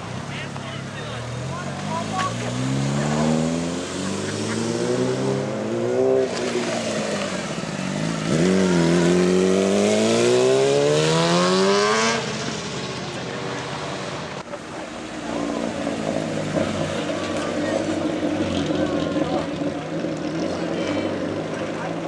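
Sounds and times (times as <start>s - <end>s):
car engine revving hard: 1.1s - 22.0s.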